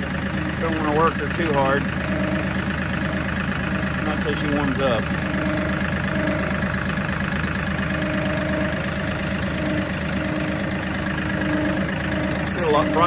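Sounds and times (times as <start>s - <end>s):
higher engine tone: 0.0s - 13.0s
tractor diesel engine idling: 0.0s - 13.0s.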